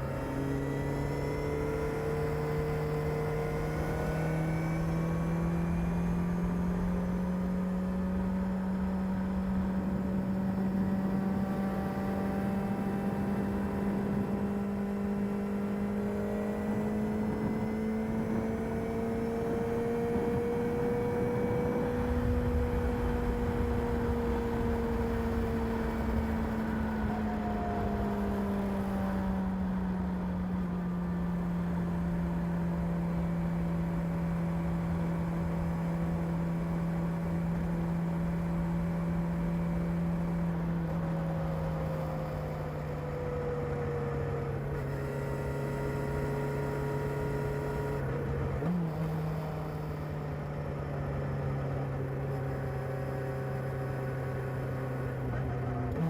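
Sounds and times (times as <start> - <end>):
motorcycle engine running: 1.9 - 56.0.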